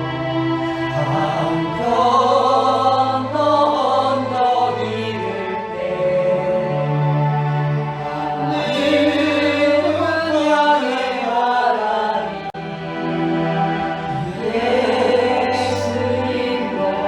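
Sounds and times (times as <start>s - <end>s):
choral singing: 0.0s - 17.0s.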